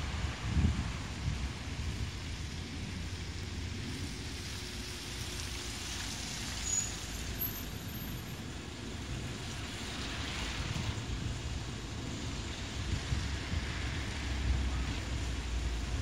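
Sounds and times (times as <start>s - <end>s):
wind rumble on microphone: 0.0s - 7.0s, 7.9s - 16.0s
tyres hissing on wet road: 0.0s - 16.0s.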